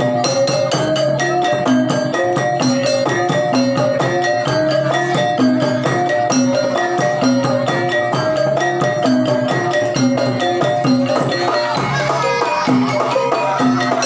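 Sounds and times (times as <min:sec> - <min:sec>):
metallophones playing melody: 0:00.0 - 0:14.0.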